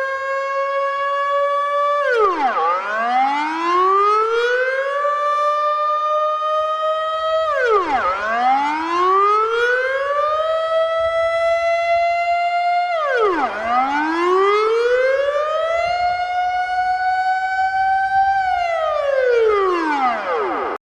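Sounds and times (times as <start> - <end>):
emergency siren wailing: 0.0 - 20.8.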